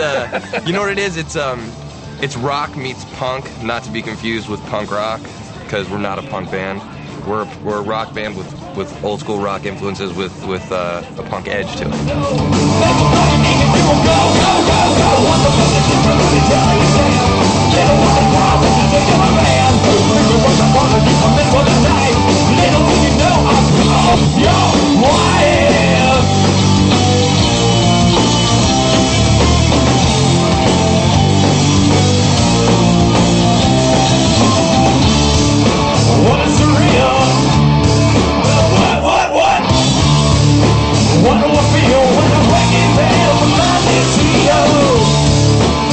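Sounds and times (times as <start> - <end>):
rock band playing: 0.0 - 6.4, 11.5 - 45.9.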